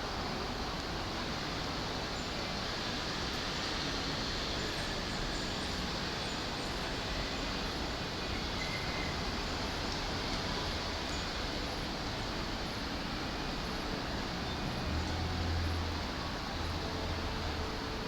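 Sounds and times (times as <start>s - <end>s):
railway platform background noise: 0.0s - 18.0s.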